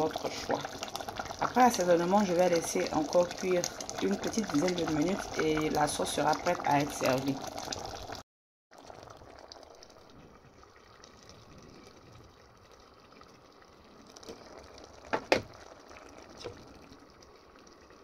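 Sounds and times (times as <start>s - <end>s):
sauce bubbling in a pot: 0.0s - 18.0s.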